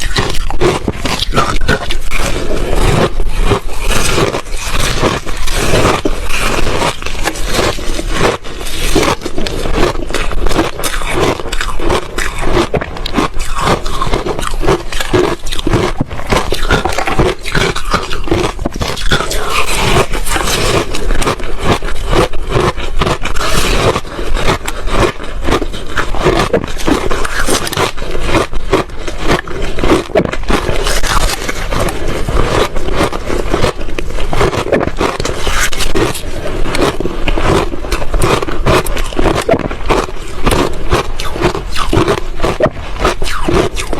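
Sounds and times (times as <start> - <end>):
ice being chewed: 0.0 - 43.9.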